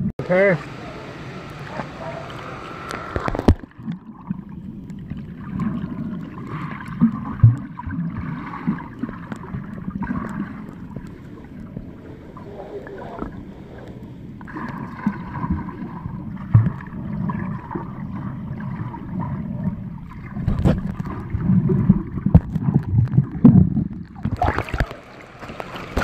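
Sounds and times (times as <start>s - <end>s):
muffled underwater sloshing: 0.0s - 26.0s
underwater bubbles: 0.0s - 26.0s
water splashing: 0.0s - 26.0s.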